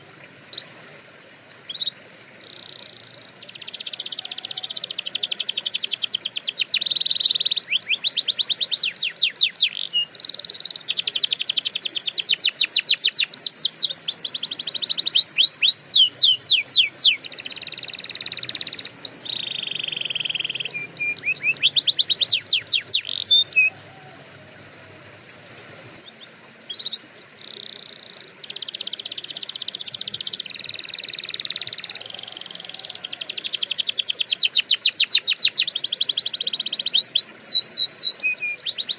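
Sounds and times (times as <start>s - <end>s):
canary singing trills: 1.5s - 24.2s, 26.0s - 38.9s.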